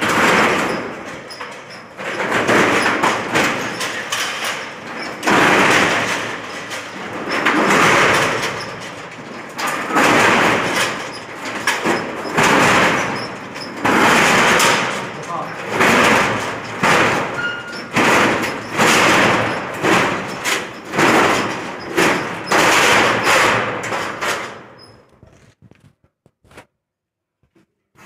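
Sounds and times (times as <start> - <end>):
metal rolling shutter rattling: 0.0 - 25.6.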